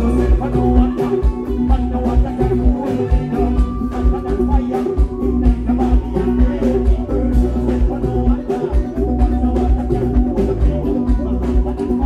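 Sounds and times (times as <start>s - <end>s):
bass guitar: 0.0s - 12.0s
drum kit beating: 0.0s - 12.0s
electric guitar: 0.0s - 12.0s.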